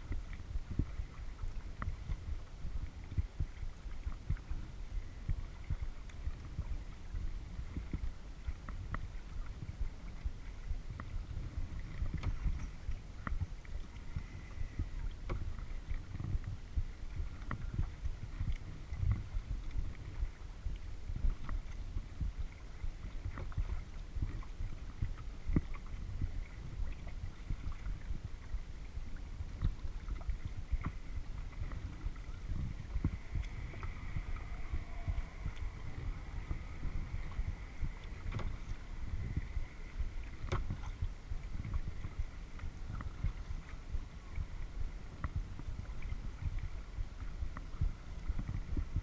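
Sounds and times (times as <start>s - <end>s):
water sloshing around paddle: 0.0s - 49.0s
wind rumble on microphone: 0.0s - 49.0s.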